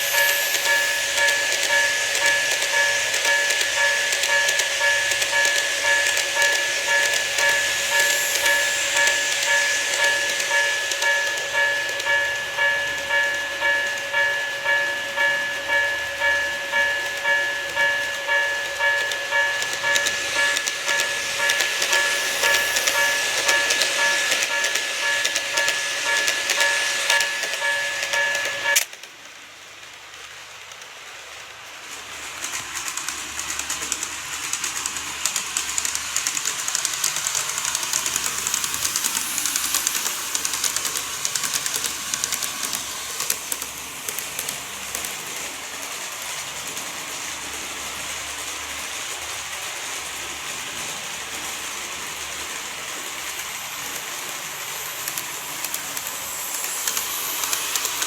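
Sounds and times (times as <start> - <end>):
model train clicking on track: 0.0 - 58.0.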